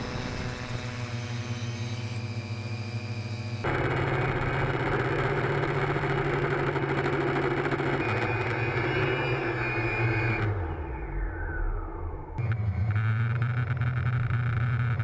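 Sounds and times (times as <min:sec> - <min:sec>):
drone motors and propellers droning: 0:00.0 - 0:15.0.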